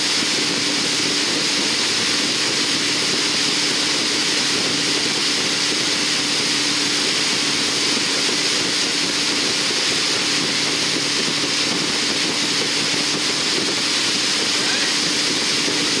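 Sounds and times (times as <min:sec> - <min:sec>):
boat engine humming: 0:00.0 - 0:16.0
rushing wake water: 0:00.0 - 0:16.0.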